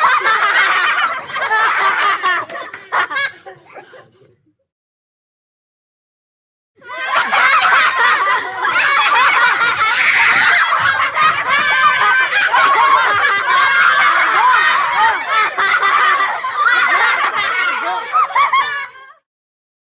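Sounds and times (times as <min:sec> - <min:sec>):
children laughing: 0:00.0 - 0:04.6, 0:06.8 - 0:19.3.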